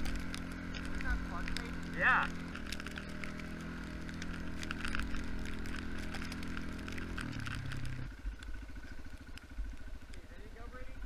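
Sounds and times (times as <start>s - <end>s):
quad engine running: 0.0s - 11.0s.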